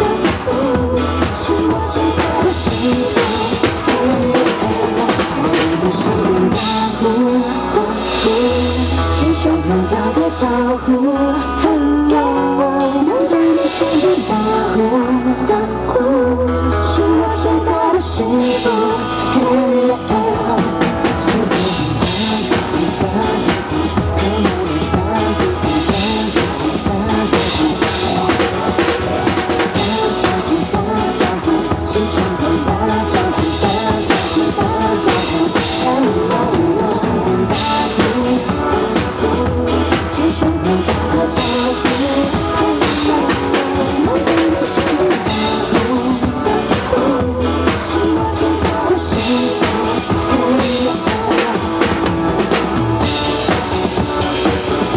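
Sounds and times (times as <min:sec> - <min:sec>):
drum kit beat with rimshots: 0:00.0 - 0:15.0, 0:18.2 - 0:54.9
pop song with singing: 0:00.0 - 0:54.9.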